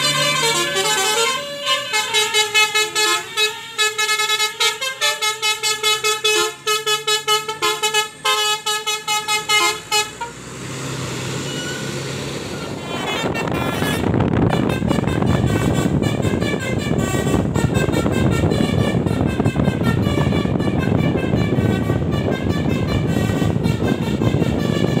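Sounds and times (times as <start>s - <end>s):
multi-trumpet air horn melody: 0.0s - 10.4s, 13.0s - 25.0s
bus engine passing: 0.0s - 25.0s.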